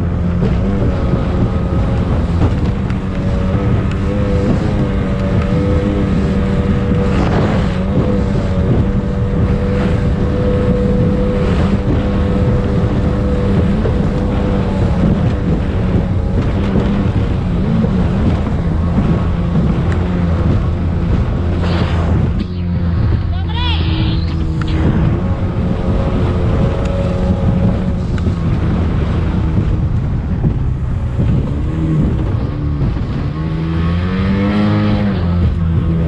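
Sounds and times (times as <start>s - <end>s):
hull thuds and splashes: 0.0s - 23.2s, 24.4s - 36.0s
speedboat engine running: 0.0s - 36.0s
wind buffeting microphone: 0.0s - 36.0s.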